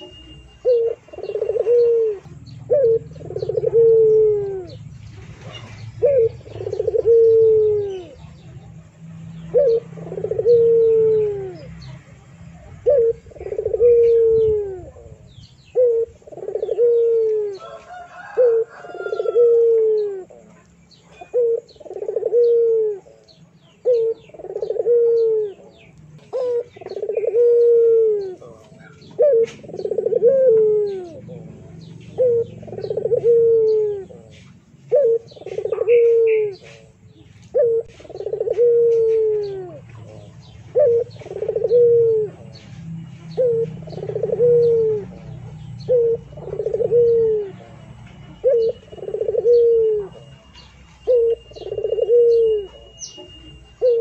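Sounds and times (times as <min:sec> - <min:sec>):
bird cooing: 0:00.0 - 0:54.0.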